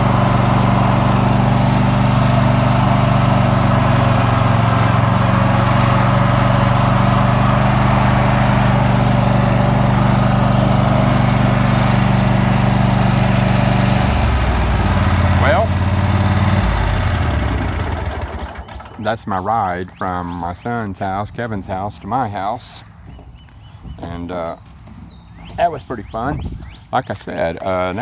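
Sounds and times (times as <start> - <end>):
riding lawn mower engine running: 0.0 - 28.0.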